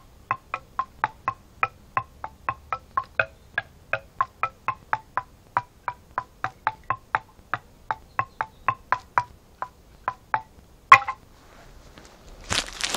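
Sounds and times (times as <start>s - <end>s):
stick tapping on wood: 0.0s - 11.3s.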